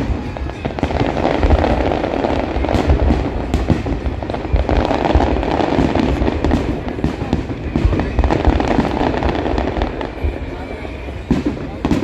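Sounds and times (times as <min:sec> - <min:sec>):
deep fireworks booms: 0:00.0 - 0:12.0
fireworks crackling: 0:00.0 - 0:12.0.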